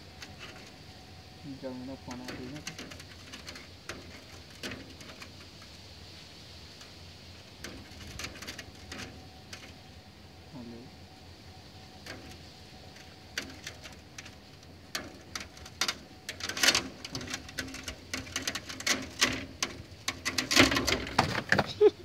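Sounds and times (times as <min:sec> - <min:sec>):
cat claws scraping window screen: 0:02.1 - 0:09.9, 0:11.9 - 0:21.8.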